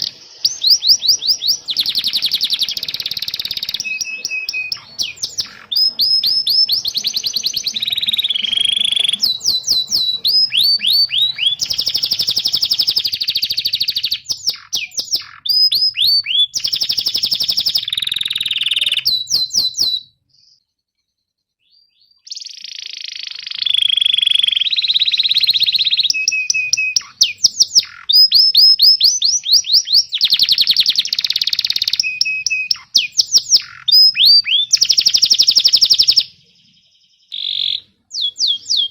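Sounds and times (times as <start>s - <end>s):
canary trilling and chirping: 0.0s - 20.6s, 21.6s - 38.9s.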